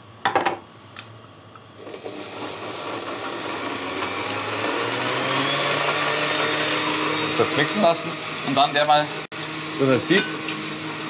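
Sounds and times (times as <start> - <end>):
electric blender motor running: 1.8 - 11.0.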